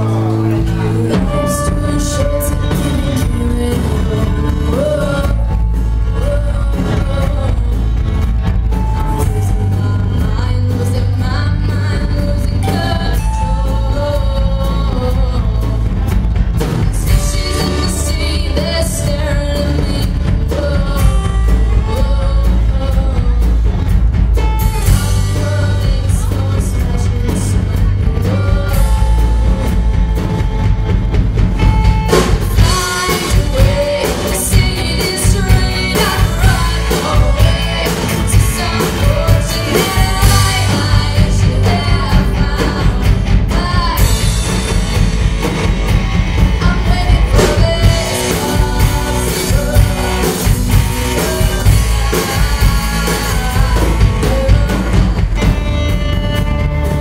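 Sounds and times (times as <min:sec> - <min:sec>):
person singing lead vocal: 0:00.0 - 0:30.6, 0:32.0 - 0:57.0
drum kit: 0:00.0 - 0:57.0
electric bass: 0:00.0 - 0:57.0.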